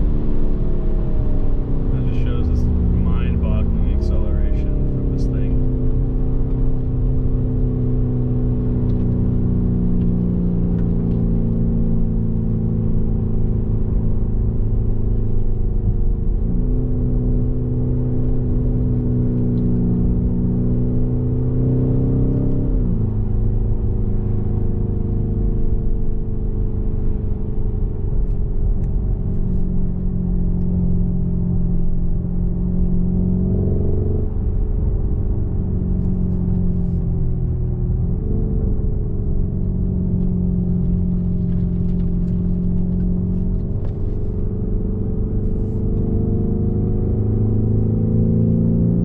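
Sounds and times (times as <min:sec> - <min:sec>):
car engine running while driving: 0:00.0 - 0:49.0.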